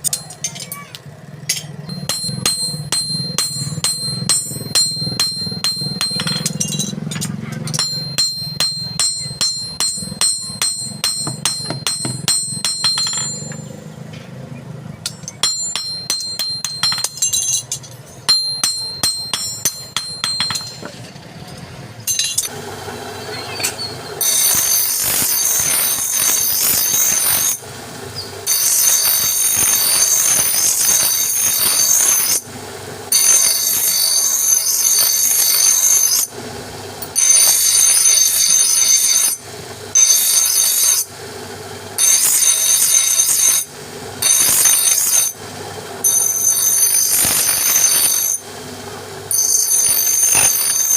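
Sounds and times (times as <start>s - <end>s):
hammer striking metal: 0.0s - 22.6s, 23.4s - 27.6s, 28.2s - 32.5s, 33.1s - 36.4s, 42.0s - 45.4s, 46.0s - 48.5s, 49.3s - 50.9s.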